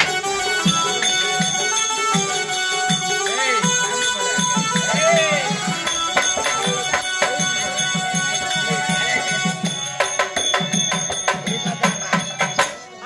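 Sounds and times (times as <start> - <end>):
hand drums beating: 0.0 - 13.0
held keyboard notes: 0.0 - 13.0.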